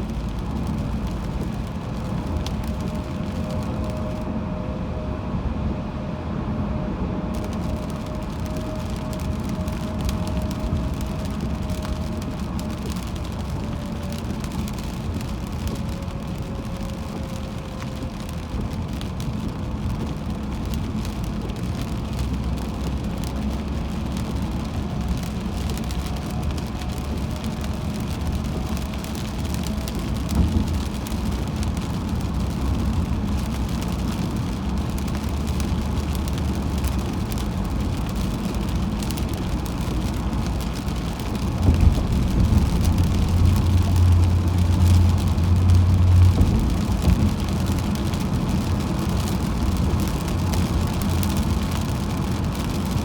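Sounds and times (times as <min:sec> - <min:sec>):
rain hitting car: 0:00.0 - 0:04.7, 0:05.7 - 0:53.0
car road rumble: 0:00.0 - 0:53.0.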